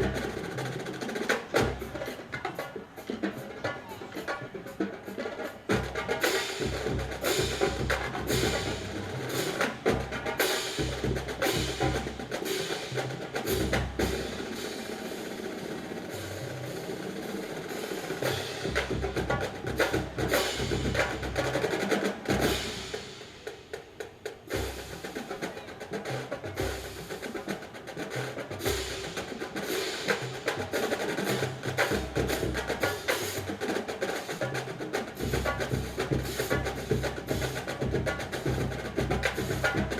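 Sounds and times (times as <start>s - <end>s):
snare drums: 0.0s - 39.9s.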